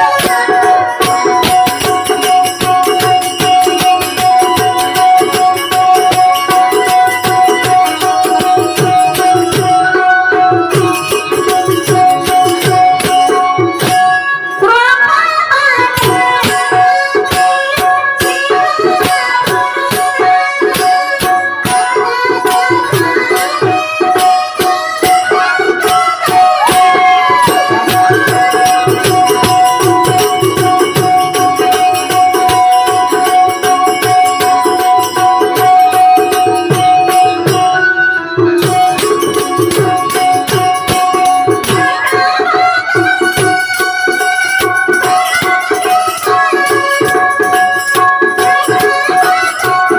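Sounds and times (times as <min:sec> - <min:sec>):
fast regular percussion: 0:00.0 - 0:14.8, 0:15.8 - 0:49.9.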